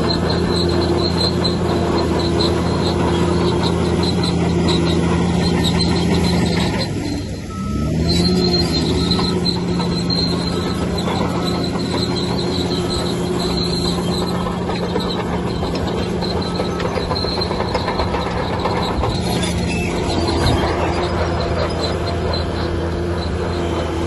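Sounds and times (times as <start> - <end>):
bulldozer diesel engine revving: 0.0 - 24.0
steel tracks squealing and clanking: 0.0 - 24.0.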